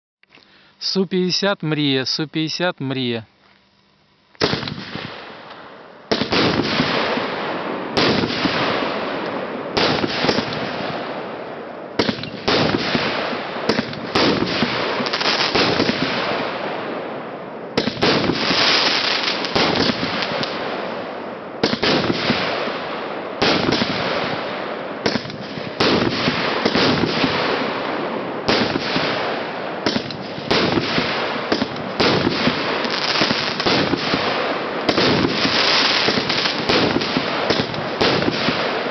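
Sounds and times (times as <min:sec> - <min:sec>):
fireworks crackling: 0:04.3 - 0:38.9
fireworks shots firing: 0:04.4 - 0:38.9.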